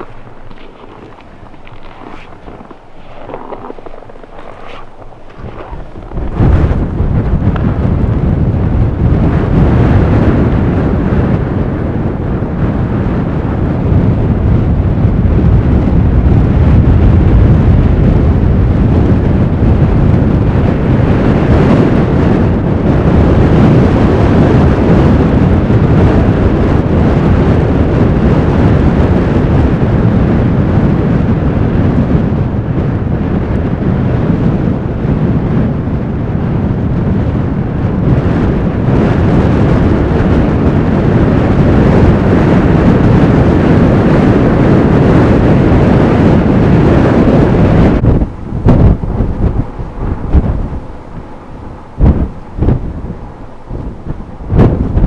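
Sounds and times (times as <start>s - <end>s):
strong blizzard wind: 0.0s - 55.0s.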